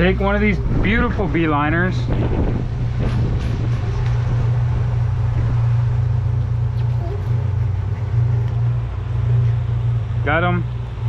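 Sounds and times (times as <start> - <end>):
outboard boat engine droning: 0.0 - 11.0
water noise: 0.0 - 11.0
wind: 0.0 - 11.0.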